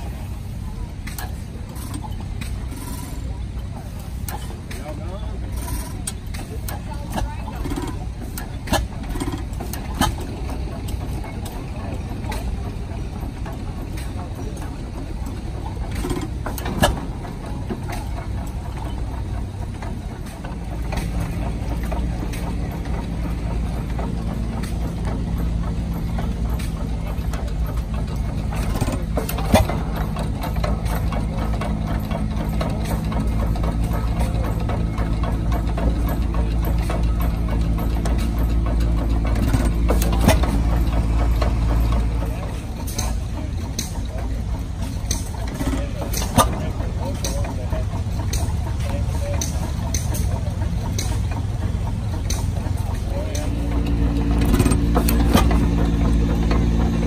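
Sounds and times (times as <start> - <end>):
hit-and-miss engine running: 0.0 - 57.0.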